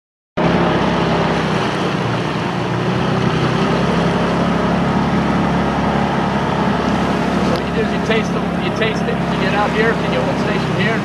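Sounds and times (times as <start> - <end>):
boat motor humming: 0.4 - 11.0
fast river water rushing: 0.4 - 11.0
wind: 0.4 - 11.0.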